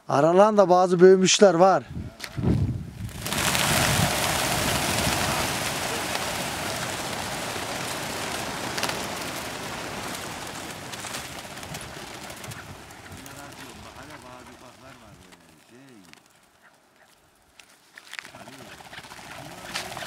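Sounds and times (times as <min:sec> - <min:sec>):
birds' wingbeats whirring: 0:02.1 - 0:20.0.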